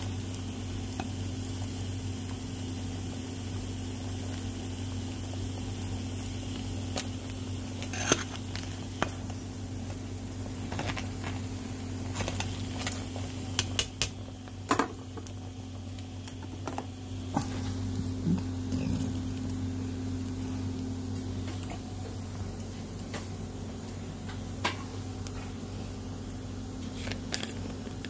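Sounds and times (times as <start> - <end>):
pot boiling: 0.0 - 28.0.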